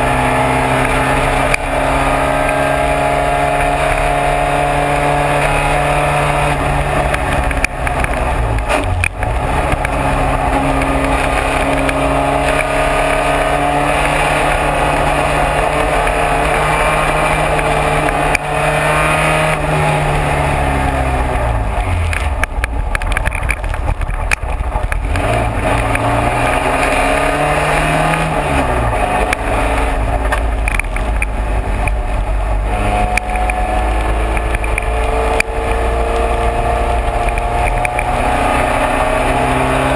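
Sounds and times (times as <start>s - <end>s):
racing car engine running hard: 0.0s - 39.9s
road and wind noise: 0.0s - 39.9s.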